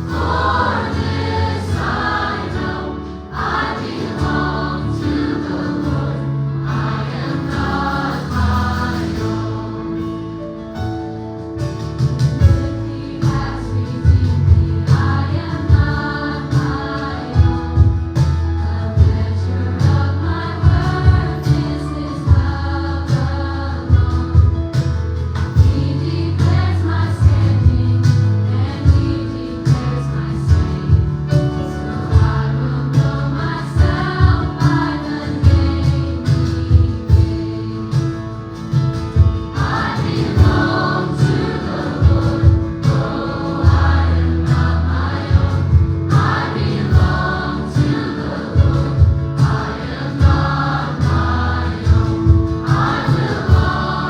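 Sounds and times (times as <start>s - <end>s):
gospel choir singing: 0.0s - 10.6s, 12.2s - 54.0s
bass: 0.0s - 54.0s
drums with steady beat: 0.0s - 54.0s
keyboard: 0.0s - 54.0s.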